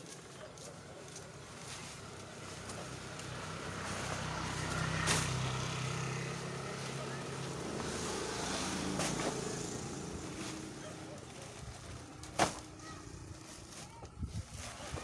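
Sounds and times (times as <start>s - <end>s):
engine humming: 0.0s - 14.1s.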